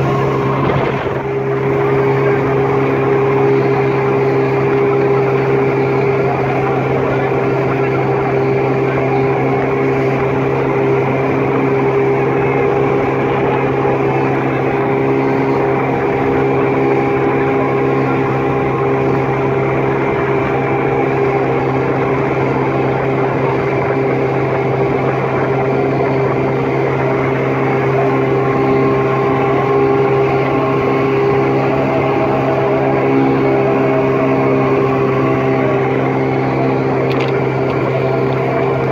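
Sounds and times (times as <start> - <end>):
motor droning steadily: 0.0 - 38.9.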